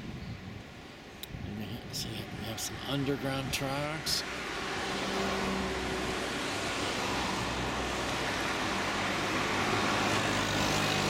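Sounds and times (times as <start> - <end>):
traffic rushing hiss: 0.8 - 11.0.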